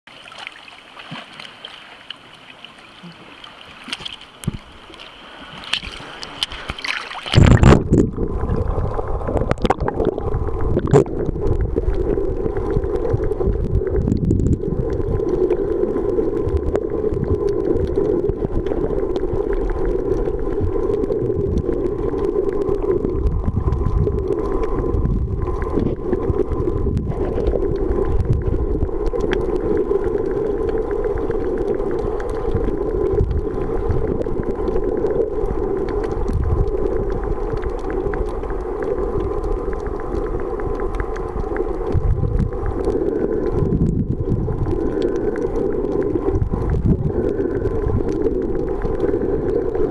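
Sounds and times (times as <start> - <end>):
water lapping and splashing: 0.1 - 49.9
muffled underwater rumble: 4.1 - 49.9.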